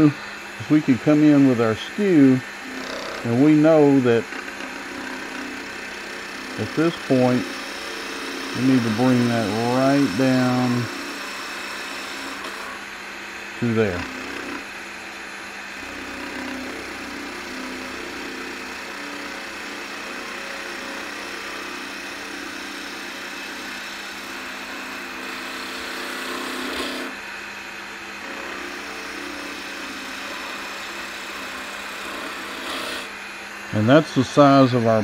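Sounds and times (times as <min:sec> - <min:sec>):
chisel shaving spinning wood: 0:00.0 - 0:35.0
wood lathe humming: 0:00.0 - 0:35.0.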